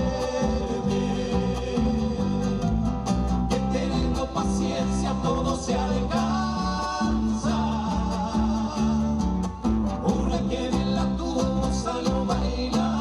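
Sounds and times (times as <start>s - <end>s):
latin folk band music: 0.0s - 13.0s.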